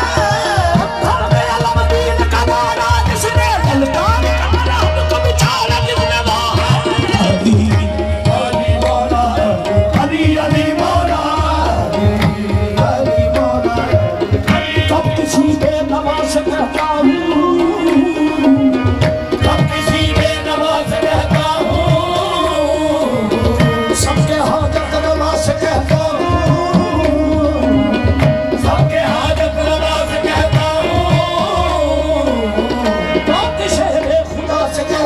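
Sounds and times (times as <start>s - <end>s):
harmonium drone: 0.0s - 35.0s
tabla rhythm: 0.0s - 35.0s.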